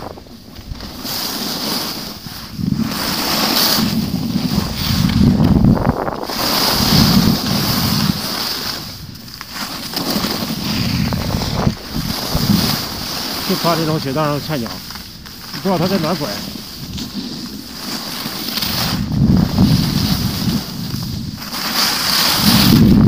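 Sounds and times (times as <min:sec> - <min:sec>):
wind on microphone: 0:00.0 - 0:17.8, 0:18.6 - 0:23.0
skis scraping over snow: 0:00.0 - 0:23.0.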